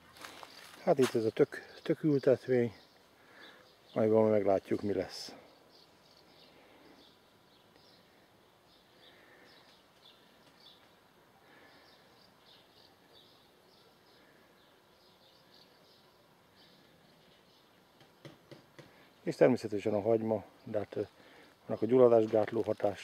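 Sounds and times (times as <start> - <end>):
faint background hiss: 0.0 - 23.0
small birds chirping: 0.0 - 23.0.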